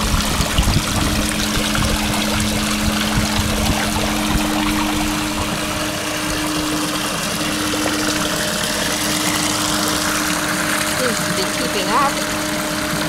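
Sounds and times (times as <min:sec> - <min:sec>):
steady low hum: 0:00.0 - 0:13.0
water splashing into pond: 0:00.0 - 0:13.0.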